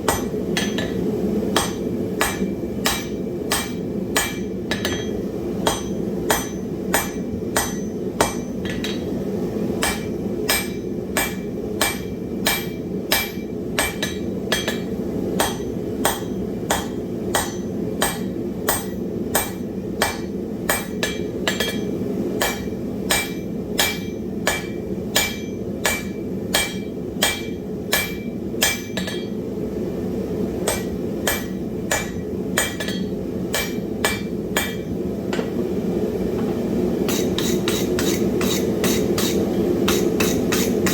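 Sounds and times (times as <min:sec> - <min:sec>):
hammer striking iron on anvil: 0:00.0 - 0:09.2, 0:09.8 - 0:29.4, 0:30.6 - 0:35.6, 0:37.1 - 0:40.9.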